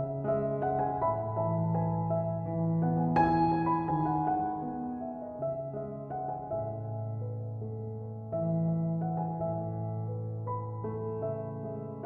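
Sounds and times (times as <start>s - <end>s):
calm instrumental music: 0.0s - 12.0s.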